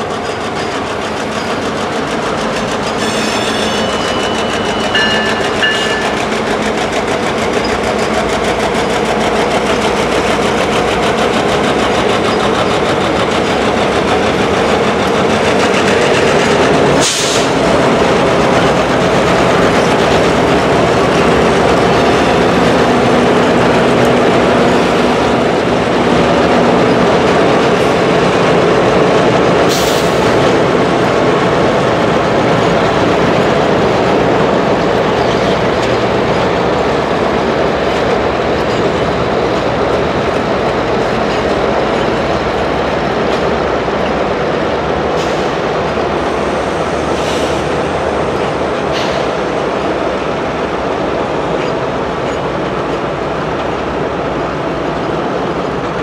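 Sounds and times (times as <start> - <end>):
diesel locomotive engines running: 0.0 - 56.0
train wheels clicking over rail joints: 0.0 - 56.0.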